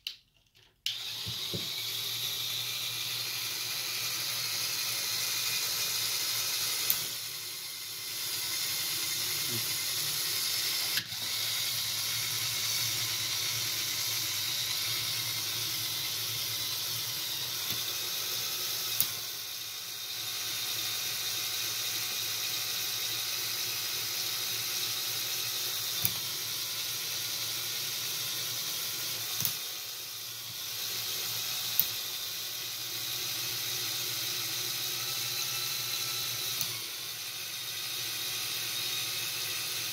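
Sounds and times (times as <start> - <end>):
motor and plastic gears whirring: 0.8 - 39.9.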